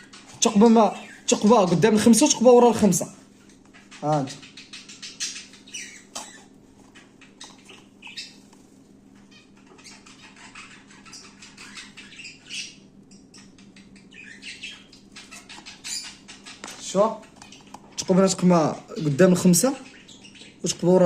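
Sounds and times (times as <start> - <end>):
cage birds chirping: 0.0 - 21.0.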